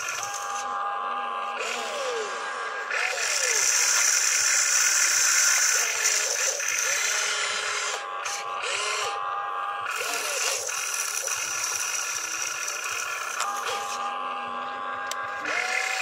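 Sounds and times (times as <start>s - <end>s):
excavator motor whine and hiss: 0.0s - 16.0s
hydraulic whines rising and falling: 0.0s - 16.0s.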